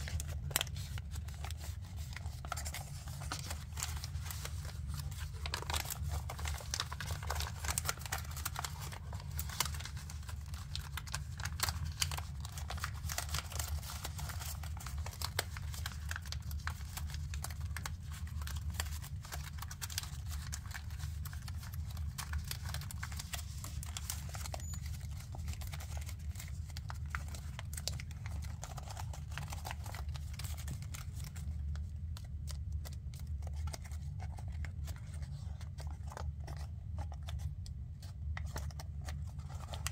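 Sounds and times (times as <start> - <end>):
fingers tapping paper folds: 0.0 - 39.9
paper rustling and crinkling: 0.0 - 39.9.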